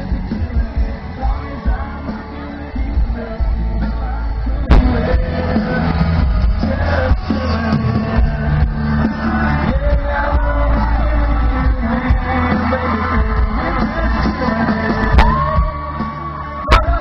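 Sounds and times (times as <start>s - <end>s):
crowd yelling: 0.0s - 17.0s
live country band: 0.0s - 17.0s
man singing: 0.0s - 17.0s.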